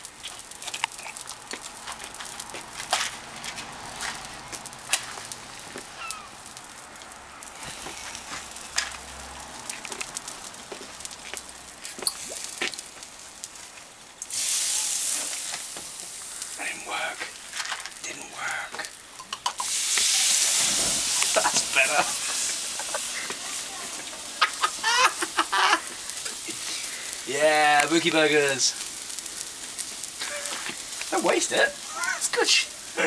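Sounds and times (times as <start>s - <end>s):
fire crackling and popping: 0.0s - 33.0s
liquid hissing on hot grill: 0.0s - 33.0s
meat sizzling on a grill: 0.0s - 33.0s.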